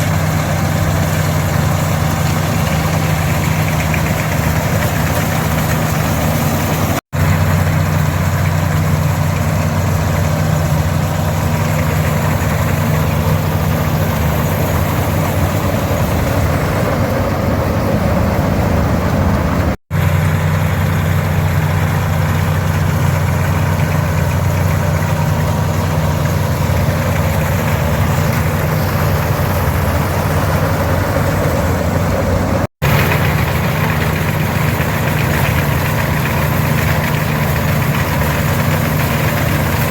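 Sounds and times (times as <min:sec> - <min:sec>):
combine machinery clattering: 0:00.0 - 0:39.9
diesel tractor engine running: 0:00.0 - 0:39.9.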